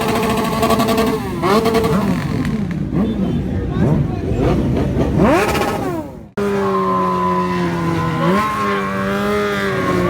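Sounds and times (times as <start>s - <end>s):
engine at high revs: 0.0s - 3.2s, 3.8s - 10.0s
motorcycle engine revving: 0.0s - 10.0s.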